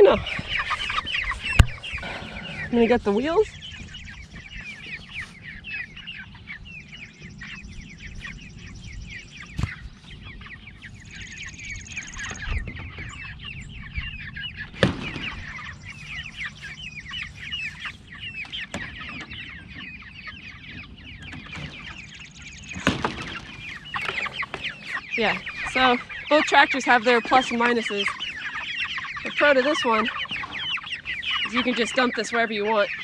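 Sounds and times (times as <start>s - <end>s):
chicks peeping: 0.0s - 33.0s.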